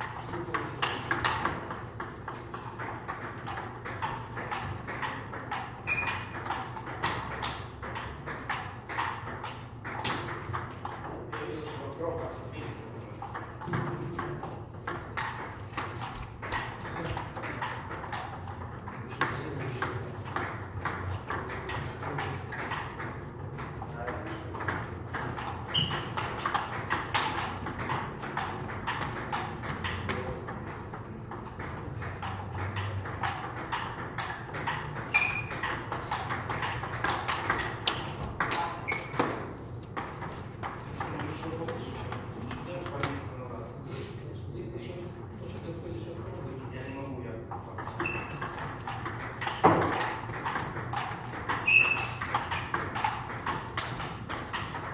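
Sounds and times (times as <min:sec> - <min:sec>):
table tennis ball knocks: 0:00.0 - 0:11.4, 0:13.2 - 0:43.2, 0:47.6 - 0:54.9.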